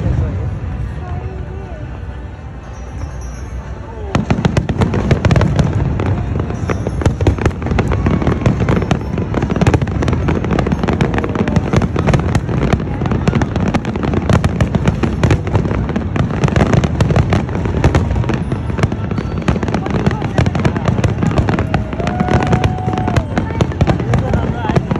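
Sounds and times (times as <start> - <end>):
fireworks bangs: 2.7 - 24.9.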